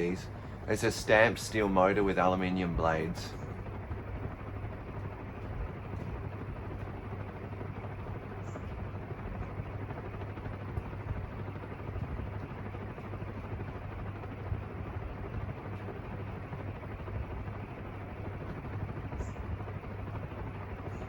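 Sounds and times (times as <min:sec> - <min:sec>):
ceiling fan blades whooshing: 0:00.0 - 0:21.0
fan motor hum: 0:00.0 - 0:21.0.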